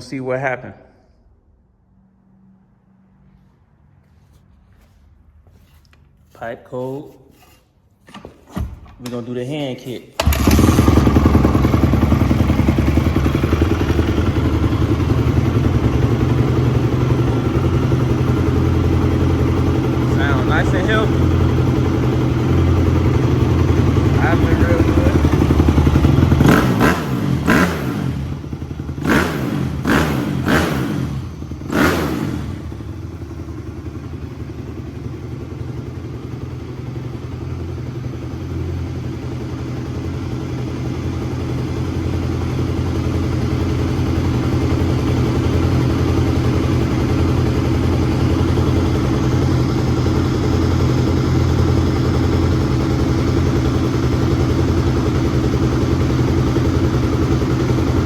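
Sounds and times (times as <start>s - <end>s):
dirt bike engine revving and idling: 10.2s - 58.0s.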